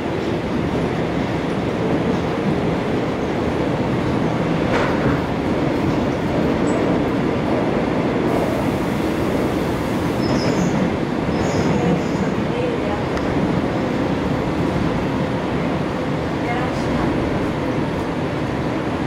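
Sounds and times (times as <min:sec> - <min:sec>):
subway car rumbling on track: 0:00.0 - 0:19.0.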